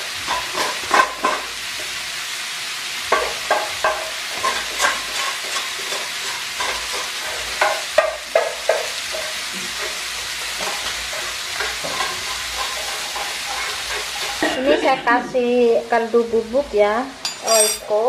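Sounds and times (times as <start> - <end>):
food sizzling in wok: 0.0 - 18.0.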